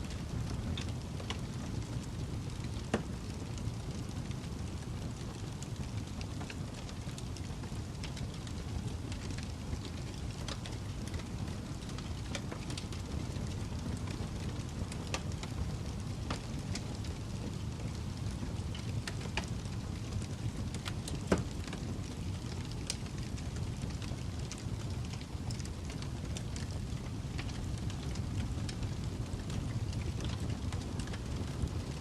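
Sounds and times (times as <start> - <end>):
fireplace crackling and popping: 0.0 - 32.0.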